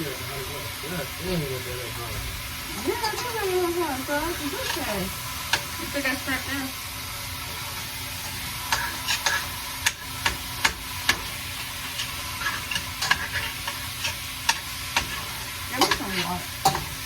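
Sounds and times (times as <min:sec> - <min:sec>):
ground beef sizzling in a pan: 0:00.0 - 0:17.0.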